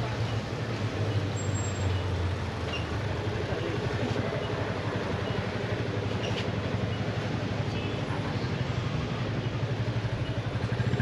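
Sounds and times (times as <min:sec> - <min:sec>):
car and motorcycle engines idling: 0:00.0 - 0:11.0.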